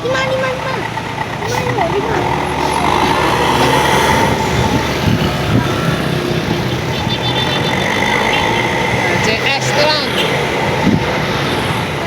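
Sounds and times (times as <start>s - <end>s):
bus passing: 0.0s - 12.0s.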